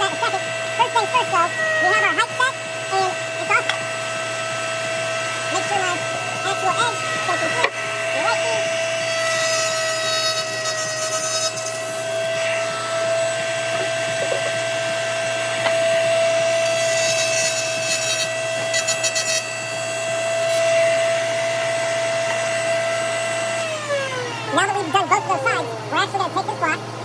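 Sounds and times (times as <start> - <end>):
dust collector running: 0.0 - 27.0
router cutting wood: 0.0 - 27.0.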